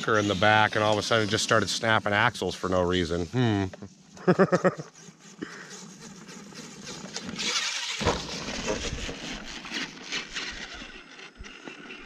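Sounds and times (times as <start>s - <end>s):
toy truck motor and tyres on dirt: 0.0s - 12.0s.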